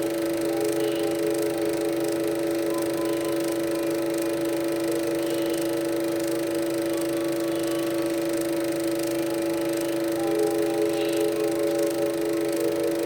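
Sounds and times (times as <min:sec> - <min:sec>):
electronic drone of held tones: 0:00.0 - 0:13.0.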